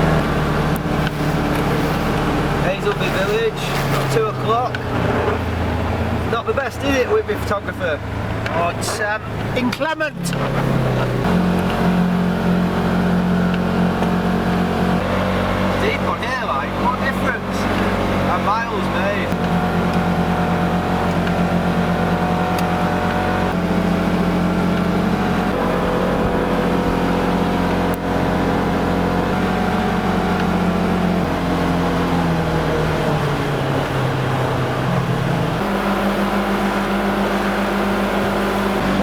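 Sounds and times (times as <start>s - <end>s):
buggy engine driving through snow: 0.0s - 39.0s.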